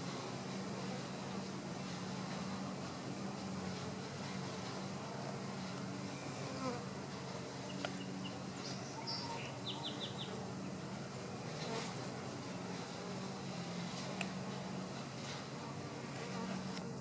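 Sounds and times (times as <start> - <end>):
honeybees humming: 0.0 - 17.0.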